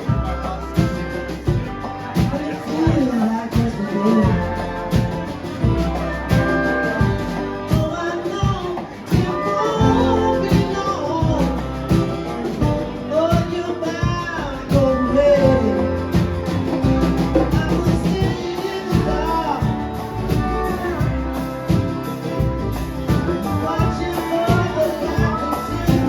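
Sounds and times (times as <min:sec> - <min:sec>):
bass line: 0:00.0 - 0:26.0
drum kit: 0:00.0 - 0:26.0
guitar: 0:00.0 - 0:26.0
person singing: 0:02.2 - 0:22.4, 0:23.0 - 0:26.0.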